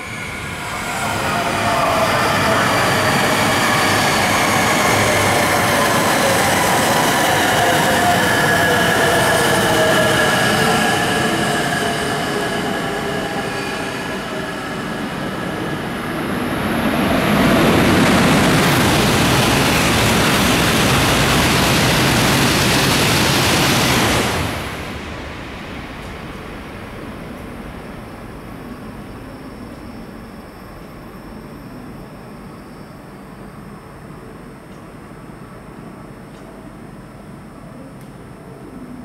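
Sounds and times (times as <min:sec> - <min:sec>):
loud rush of train noise: 0:00.0 - 0:37.8
train whine of steady tones: 0:00.0 - 0:39.0.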